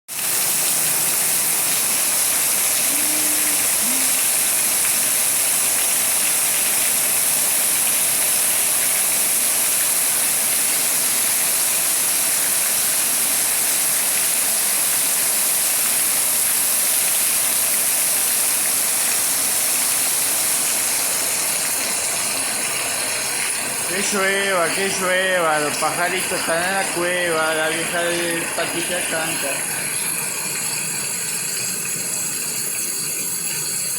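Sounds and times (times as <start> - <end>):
rain pouring: 0.1 - 33.9.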